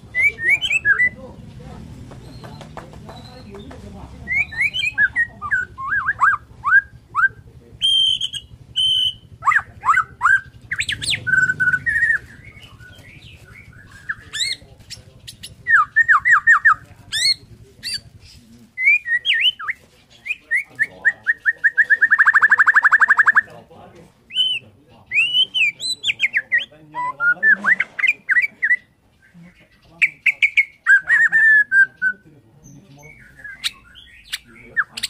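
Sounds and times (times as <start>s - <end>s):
songbird whistling and trilling: 0.0s - 1.3s, 4.2s - 23.5s, 24.3s - 35.0s.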